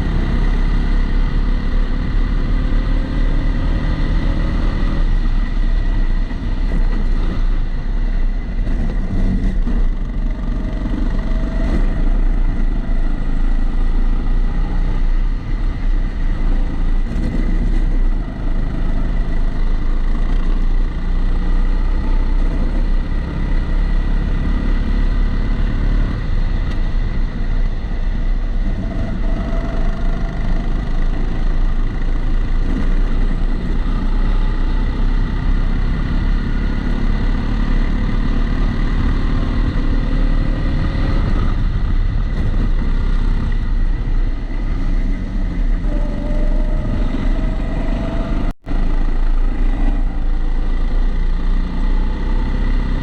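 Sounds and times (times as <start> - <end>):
kart engine running: 3.6 - 53.0.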